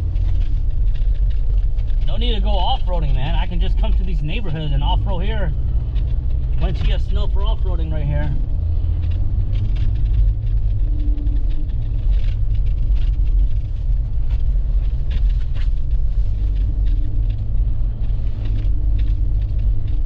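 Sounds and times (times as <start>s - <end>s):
knocks and jolts from bumpy ride: 0.0s - 20.0s
vehicle engine and tyres rumbling: 0.0s - 20.0s.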